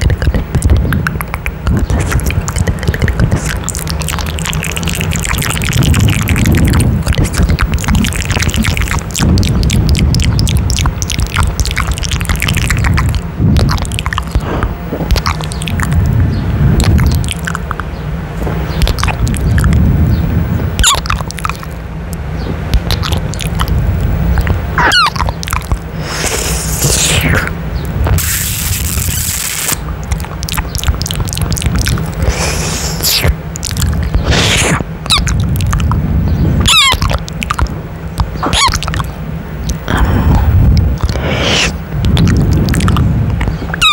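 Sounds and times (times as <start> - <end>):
kissing and lip smacks: 0.0 - 19.9, 20.8 - 43.9
low rumble on microphone: 0.0 - 43.9.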